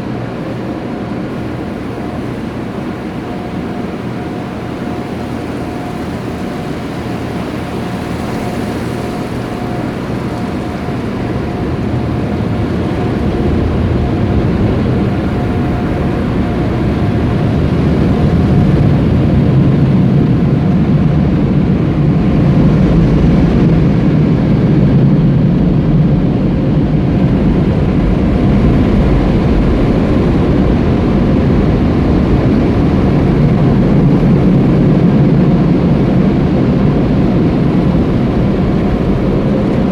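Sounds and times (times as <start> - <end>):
car wash machinery rushing: 0.0 - 39.9.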